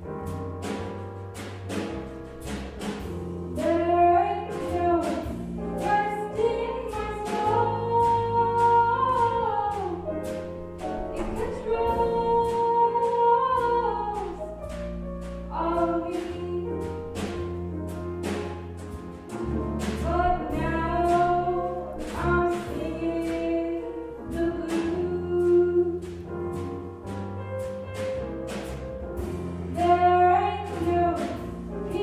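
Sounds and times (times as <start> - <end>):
drums keeping time: 0.0 - 32.0
slow jazz blues band: 0.0 - 32.0
walking bass: 0.0 - 32.0.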